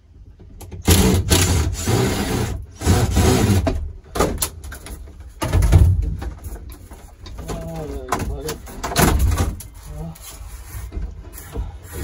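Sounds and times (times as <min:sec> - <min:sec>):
rubbing and scraping on cab walls: 0:00.6 - 0:12.0.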